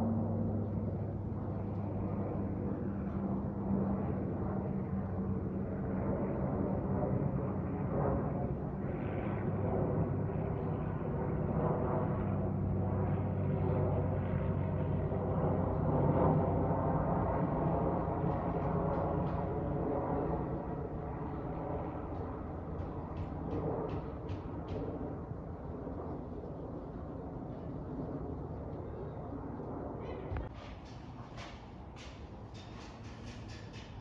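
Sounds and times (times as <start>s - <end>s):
jet airliner engine rumble: 0.0s - 34.0s.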